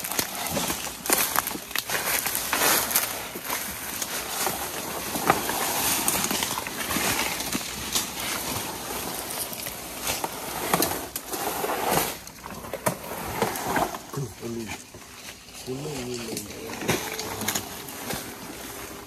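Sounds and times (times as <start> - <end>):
footsteps in leaf litter: 0.0 - 19.0.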